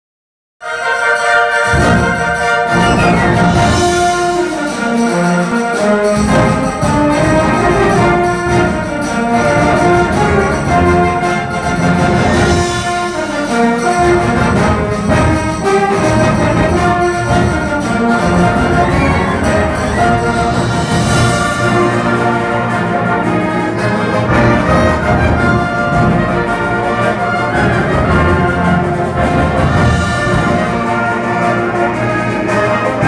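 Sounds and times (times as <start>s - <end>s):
woodwinds and brass chords: 0.6s - 33.0s
low instruments: 1.6s - 33.0s.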